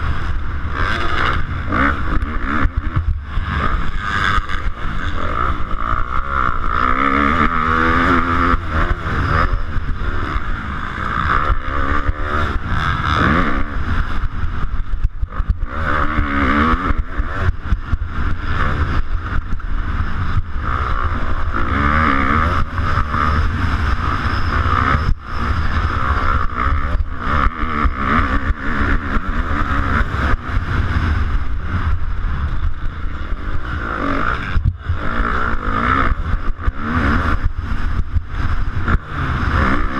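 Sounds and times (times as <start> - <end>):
knocks and rattles over rough track: 0.0 - 39.9
motocross bike engine revving: 0.0 - 39.9.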